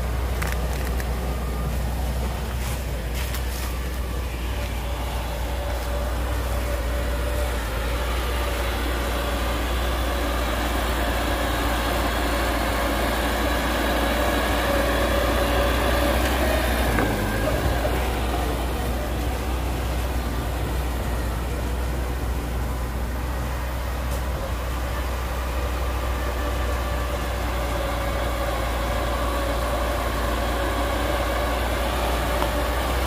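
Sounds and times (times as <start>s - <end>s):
diesel engine deep rumble: 0.0s - 33.0s.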